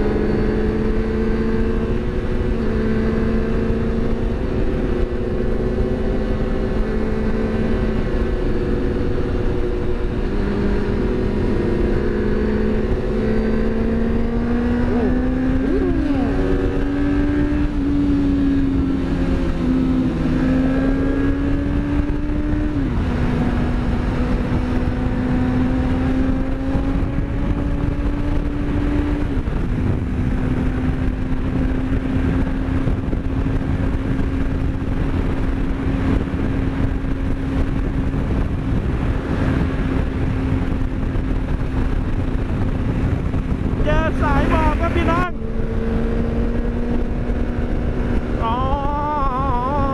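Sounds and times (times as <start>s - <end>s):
motorcycle engine cruising: 0.0s - 49.9s
wind rush: 0.0s - 49.9s.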